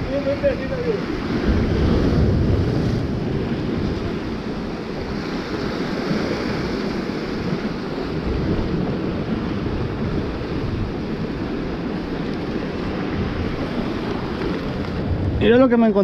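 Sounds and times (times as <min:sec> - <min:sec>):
sea waves breaking over rocks: 0:00.0 - 0:16.0
wind buffeting microphone: 0:00.0 - 0:16.0.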